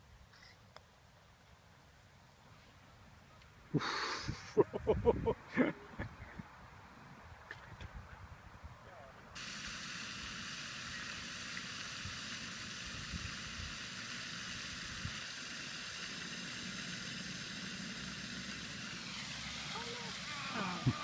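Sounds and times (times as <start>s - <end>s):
steady hiss: 0.0s - 7.0s, 9.3s - 21.0s.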